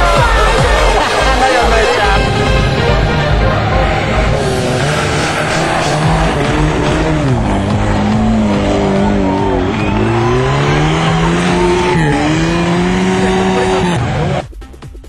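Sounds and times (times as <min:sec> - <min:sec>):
rally car engine running hard: 0:00.0 - 0:15.0.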